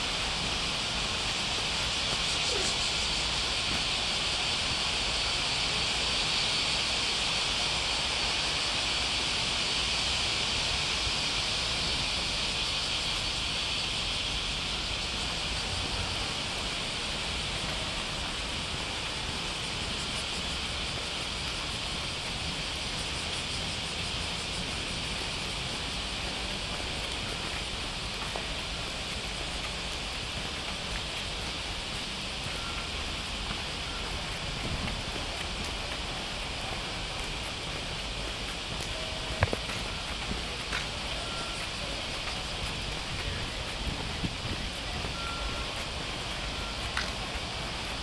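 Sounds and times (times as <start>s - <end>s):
high-pitched hiss: 0.0s - 48.0s.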